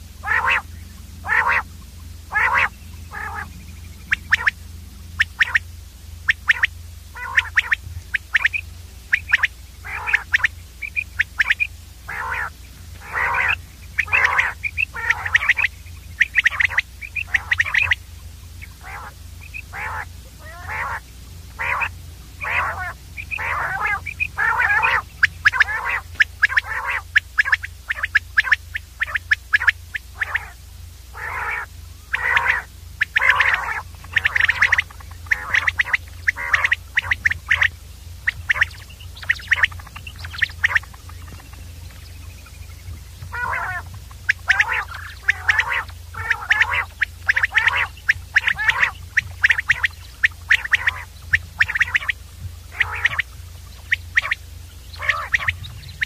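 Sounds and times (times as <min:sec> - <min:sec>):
low steady hum: 0:00.0 - 0:56.0
quail calling: 0:00.0 - 0:56.0.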